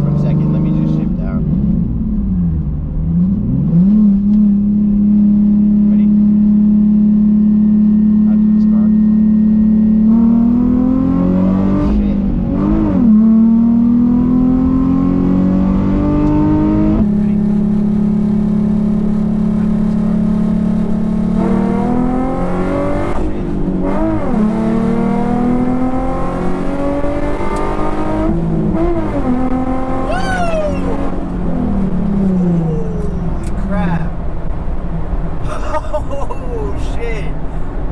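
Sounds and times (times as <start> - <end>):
car engine accelerating hard: 0.0 - 37.9.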